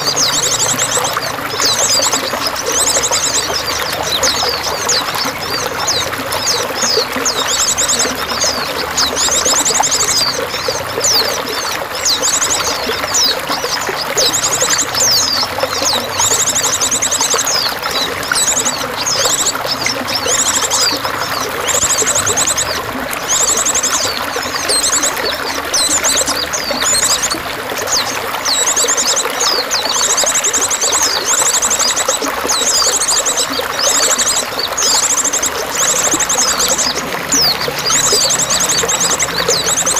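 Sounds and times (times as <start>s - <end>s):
bird trill: 0.0s - 39.9s
running water: 0.0s - 39.9s
songbirds chirping and whistling: 0.0s - 39.9s.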